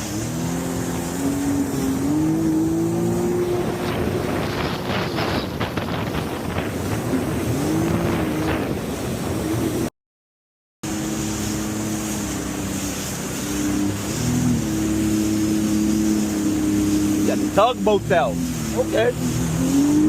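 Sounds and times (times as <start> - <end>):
jet ski engine running: 0.0 - 9.9, 10.8 - 20.0
water splashing against hull: 0.0 - 9.9, 10.8 - 20.0
wind on microphone: 0.0 - 9.9, 10.9 - 20.0.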